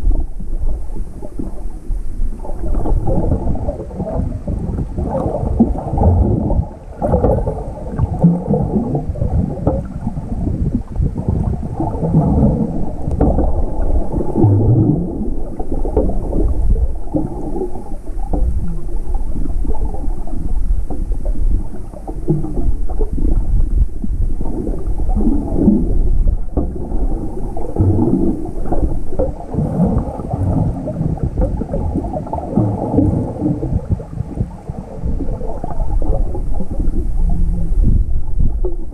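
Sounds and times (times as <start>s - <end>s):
muffled underwater gurgling: 0.0s - 38.9s.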